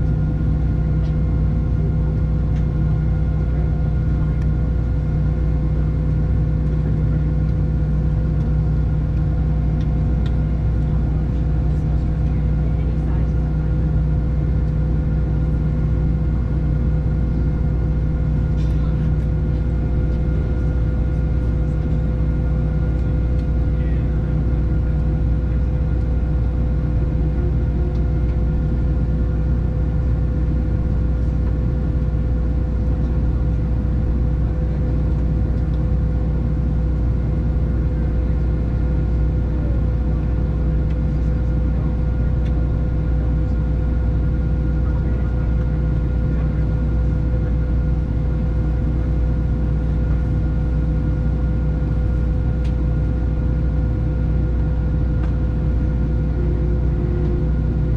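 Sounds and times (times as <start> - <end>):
airplane cabin drone: 0.0 - 57.9.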